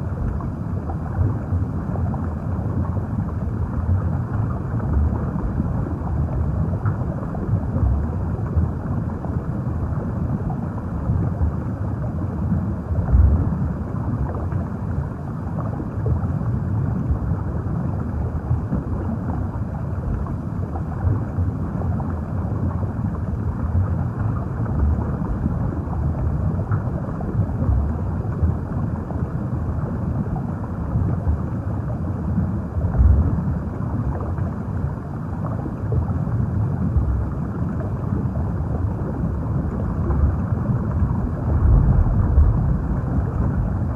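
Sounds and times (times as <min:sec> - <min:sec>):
muffled underwater rumble: 0:00.0 - 0:43.9.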